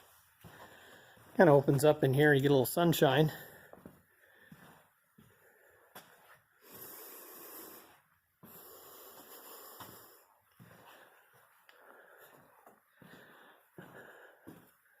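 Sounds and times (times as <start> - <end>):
heavy breathing: 0.0 - 1.4, 3.3 - 15.0.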